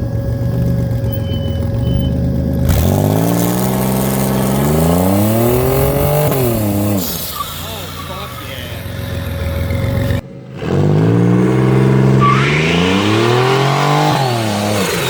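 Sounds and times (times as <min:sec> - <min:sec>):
minivan engine accelerating: 0:00.0 - 0:15.0.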